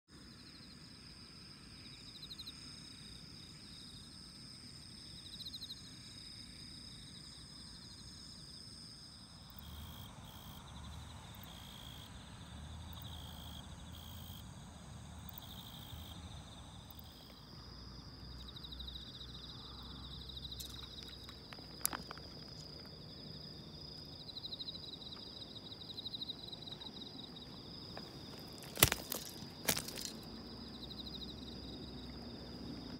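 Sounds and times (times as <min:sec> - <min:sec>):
crickets chirping: 0:00.1 - 0:32.9.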